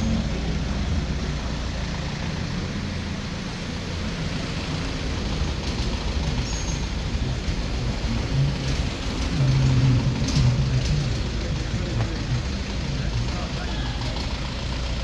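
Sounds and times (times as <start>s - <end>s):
heavy engine rumbling: 0.0s - 15.0s
road noise from passing vehicles: 0.0s - 15.0s.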